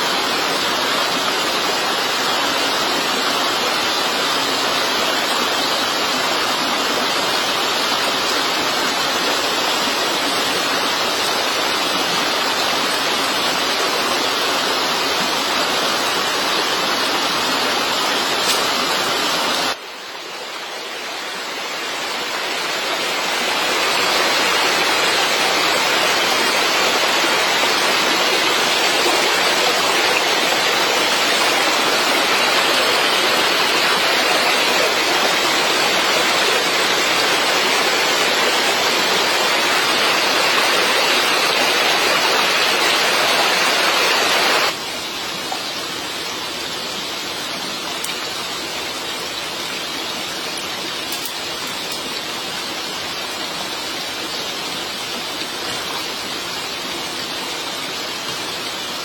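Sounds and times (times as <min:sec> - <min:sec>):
rushing water hiss: 0:00.0 - 0:59.0.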